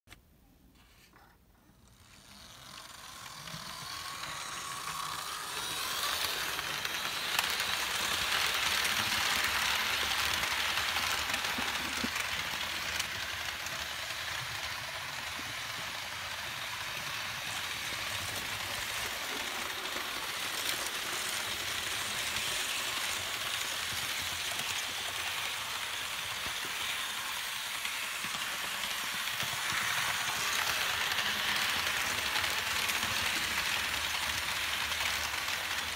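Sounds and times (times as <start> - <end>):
model train rolling on track: 1.8 - 35.9.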